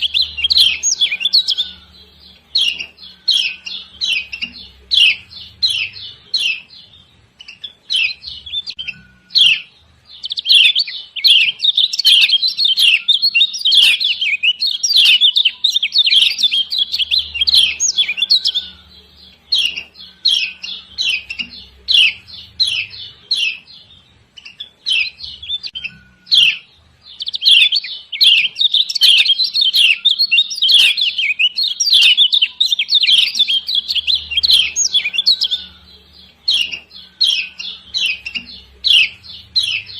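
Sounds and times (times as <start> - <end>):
bird giving harsh chirps: 0.0 - 6.7, 7.4 - 23.7, 24.4 - 39.9.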